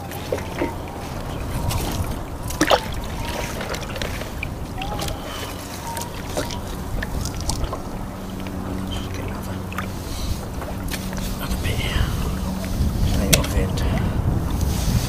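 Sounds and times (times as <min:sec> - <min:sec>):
water lapping around kayak: 0:00.0 - 0:15.0
wind on microphone: 0:00.0 - 0:15.0.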